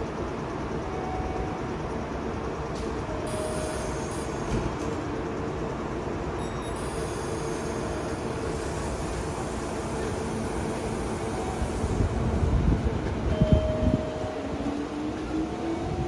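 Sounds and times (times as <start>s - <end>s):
electric train passing: 0.2s - 16.0s.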